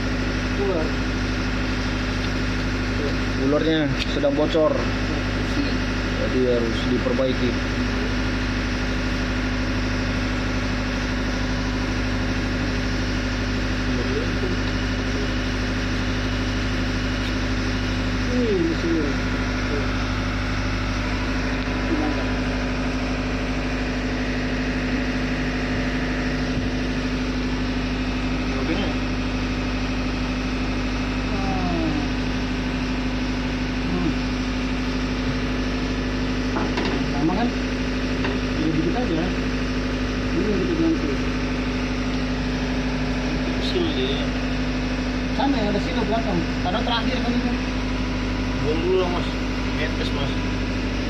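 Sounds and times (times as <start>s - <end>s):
engine room machinery hum: 0.0s - 51.0s.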